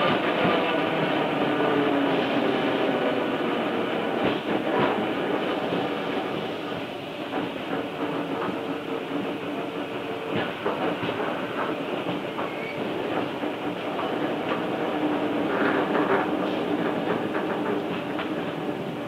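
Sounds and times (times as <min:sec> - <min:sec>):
train motor and gear hum: 0:00.0 - 0:19.0.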